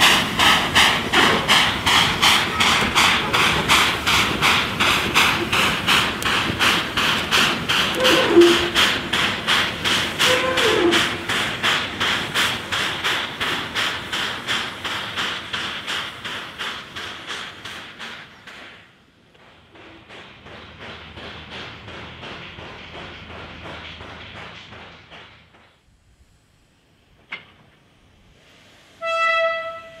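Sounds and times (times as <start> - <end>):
steam locomotives chuffing: 0.0 - 30.0.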